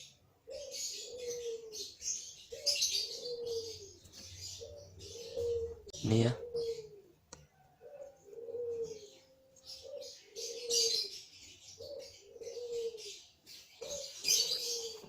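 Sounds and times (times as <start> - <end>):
bird cooing: 0.0 - 15.0.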